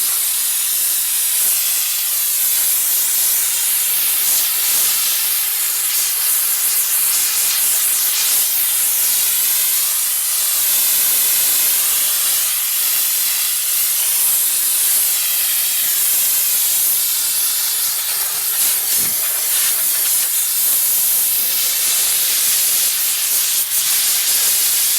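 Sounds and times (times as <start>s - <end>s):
steam spray gun hissing: 0.0s - 24.9s.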